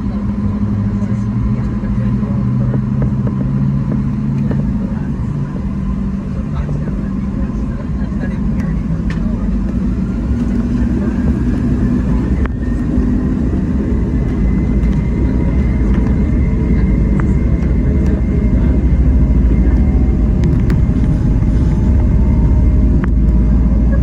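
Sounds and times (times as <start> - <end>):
engine and runway rumble: 0.0 - 24.0
faint jet engine whine: 0.0 - 24.0.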